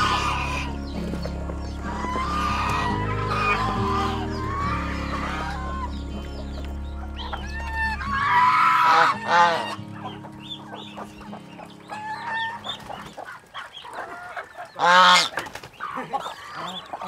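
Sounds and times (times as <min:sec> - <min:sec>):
poultry calling and clucking: 0:00.0 - 0:17.0.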